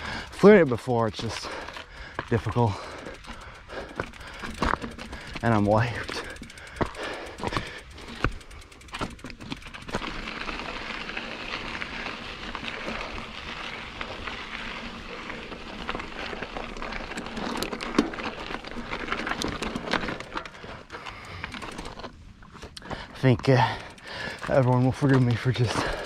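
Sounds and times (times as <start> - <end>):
bike clicks and rattles: 0.0 - 26.0
bike tyres on dirt trail: 0.0 - 26.0.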